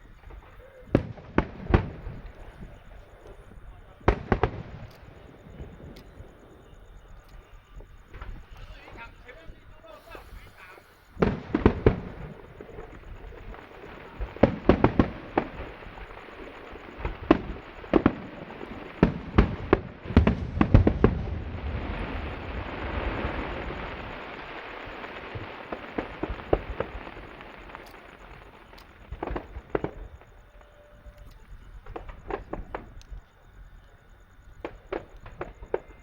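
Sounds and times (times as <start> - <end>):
fireworks bangs: 0.0 - 36.0
fireworks rushing hiss: 0.0 - 36.0.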